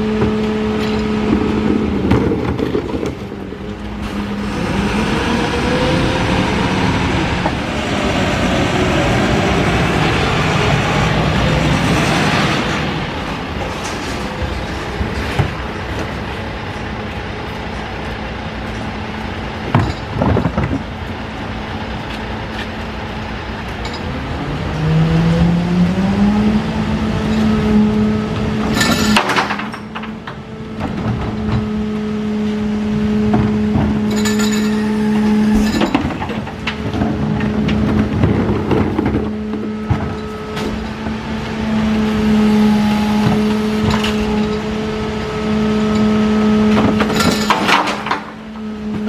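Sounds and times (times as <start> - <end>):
garbage truck engine revving: 0.0 - 49.0.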